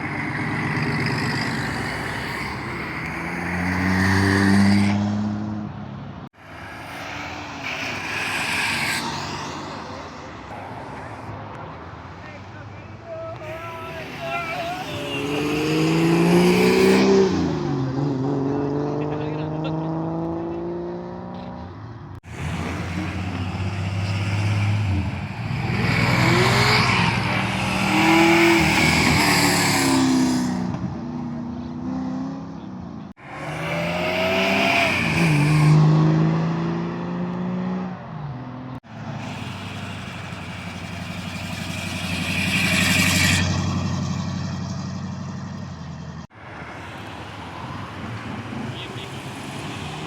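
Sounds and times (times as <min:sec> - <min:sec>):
vehicle engines revving: 0:00.0 - 0:50.0.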